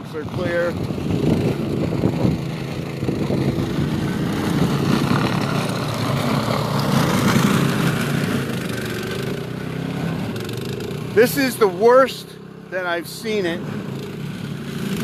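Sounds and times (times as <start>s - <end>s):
snow blower engine running: 0.0s - 15.0s.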